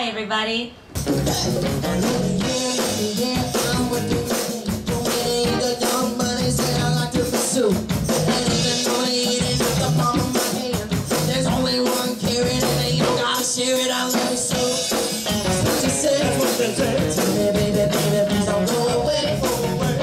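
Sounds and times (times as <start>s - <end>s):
drum kit beat: 0.9s - 20.0s
live rock band playing: 0.9s - 20.0s.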